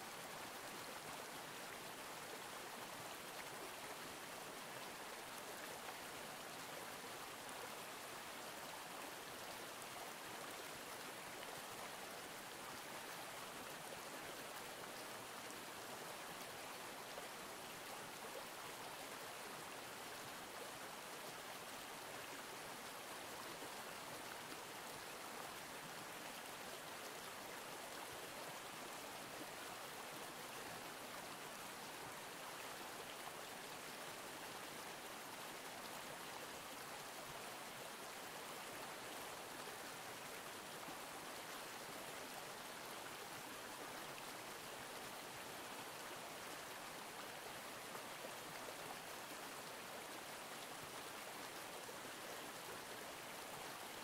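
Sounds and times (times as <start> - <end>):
flowing stream rushing: 0.0 - 54.0.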